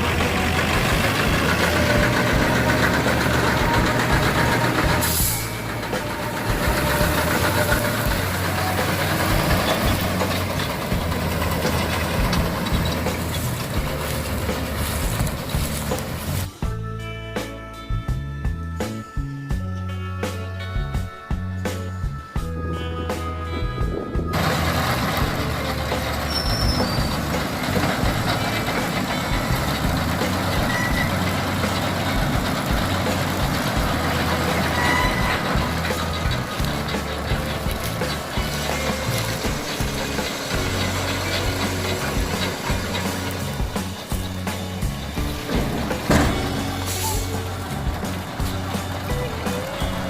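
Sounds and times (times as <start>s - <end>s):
baler mechanical noise: 0.0s - 16.7s, 22.4s - 50.0s
tractor engine running: 0.0s - 50.0s.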